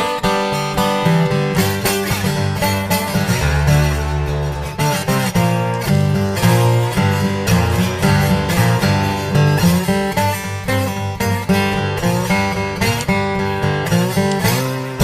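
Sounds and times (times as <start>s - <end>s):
acoustic guitar picked and strummed: 0.0s - 15.0s
low bass notes: 2.0s - 15.0s.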